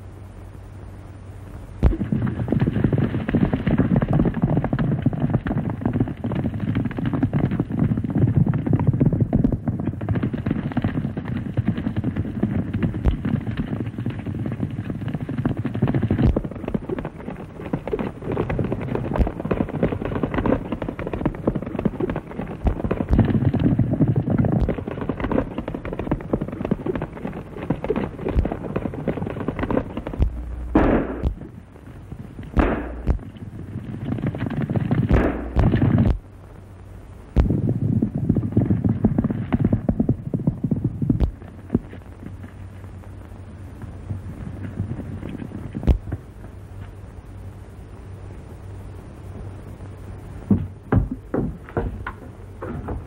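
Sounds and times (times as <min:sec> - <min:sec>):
horses galloping on dirt: 0:01.8 - 0:36.3, 0:37.3 - 0:47.1, 0:50.4 - 0:53.0.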